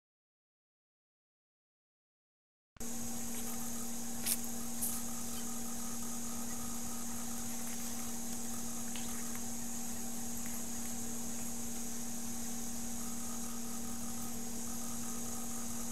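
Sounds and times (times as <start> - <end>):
electrical hum with hiss: 2.8 - 15.9.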